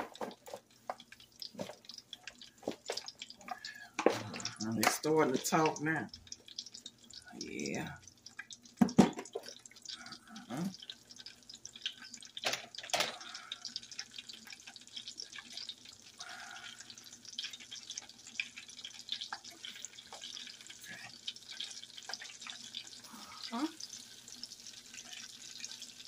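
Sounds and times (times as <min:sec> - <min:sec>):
chicken wings sizzling in oil: 0:00.0 - 0:26.0.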